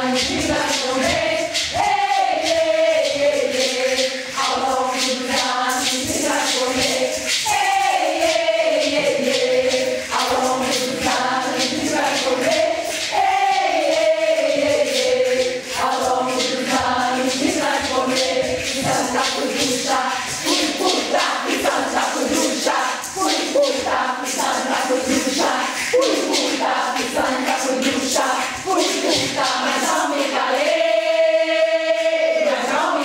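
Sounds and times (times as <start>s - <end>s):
group chanting: 0.0s - 33.0s
percussion beat: 0.0s - 33.0s.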